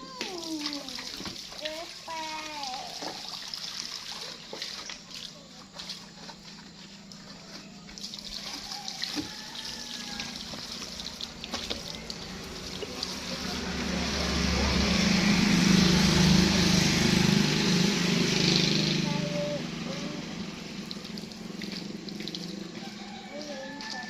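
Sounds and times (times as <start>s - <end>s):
water running and splashing: 0.0s - 24.0s.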